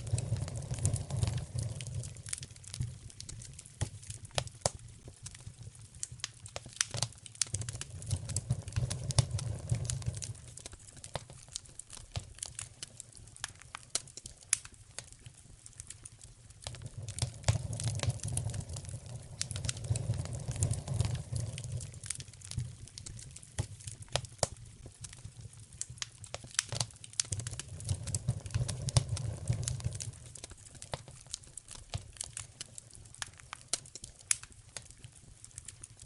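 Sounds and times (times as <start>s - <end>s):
low rumble of flame: 0.0s - 36.0s
wood fire crackling: 0.0s - 36.0s.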